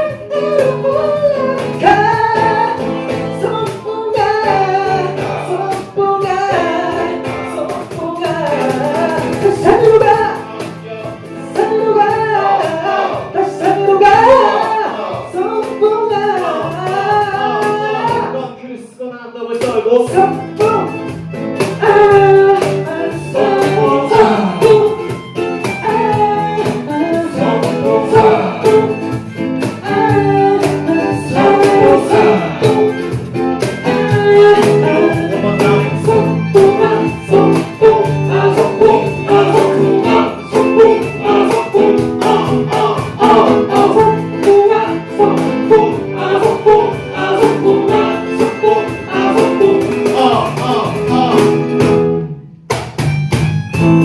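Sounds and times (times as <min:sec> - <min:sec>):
live band playing: 0:00.0 - 0:18.6, 0:19.3 - 0:54.0.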